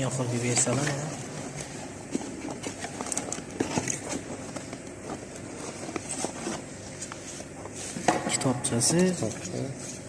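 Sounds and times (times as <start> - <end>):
box and parts being handled: 0.4 - 10.0.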